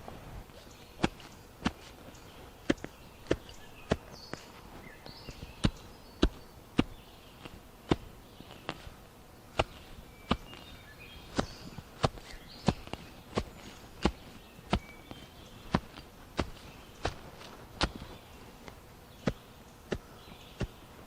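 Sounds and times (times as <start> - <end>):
footsteps walking: 0.0 - 21.0.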